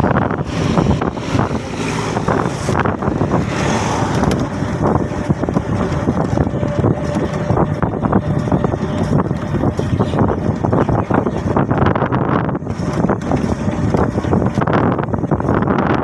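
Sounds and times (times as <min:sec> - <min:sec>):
road and motor noise: 0:00.0 - 0:16.0
truck passing: 0:00.0 - 0:16.0
wind buffeting microphone: 0:00.0 - 0:16.0.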